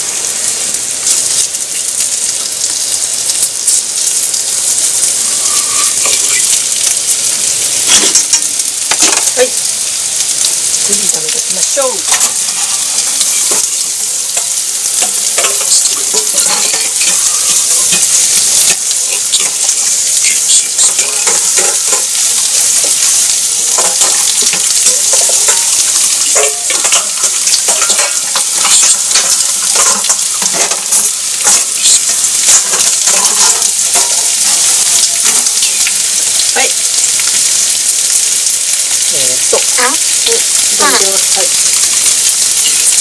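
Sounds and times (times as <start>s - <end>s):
chicken frying in oil: 0.0s - 43.0s.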